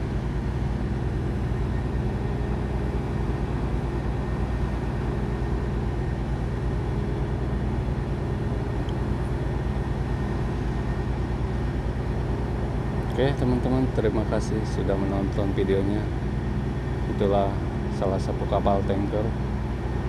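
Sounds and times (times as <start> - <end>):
large engine droning: 0.0 - 20.0.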